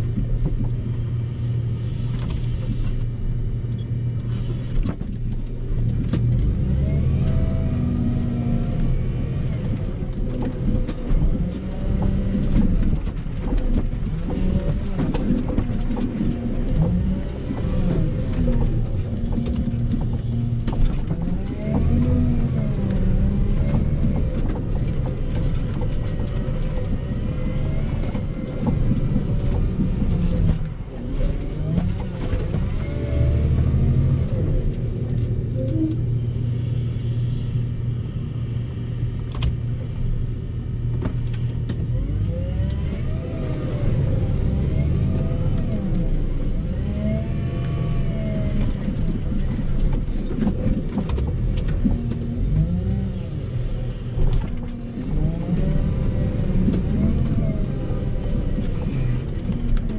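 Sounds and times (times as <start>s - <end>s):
wheel loader diesel engine: 0.0s - 59.9s.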